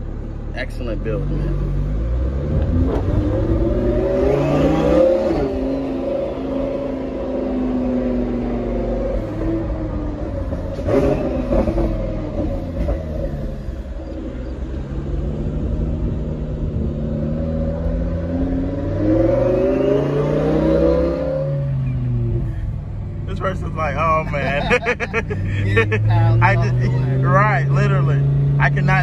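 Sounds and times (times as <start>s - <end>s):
car engine from inside cabin: 0.0s - 29.0s.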